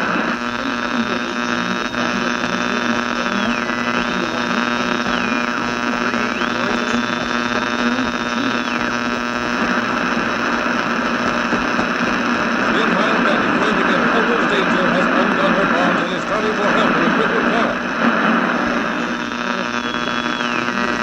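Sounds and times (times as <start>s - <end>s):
electrical hum with static: 0.0s - 21.0s.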